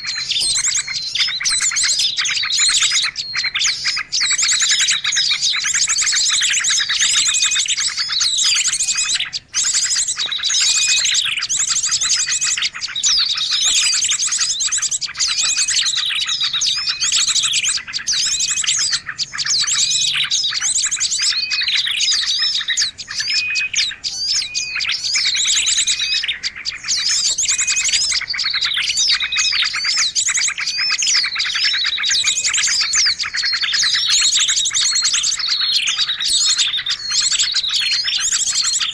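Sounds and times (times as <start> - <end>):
recorded bird song: 0.0 - 38.9.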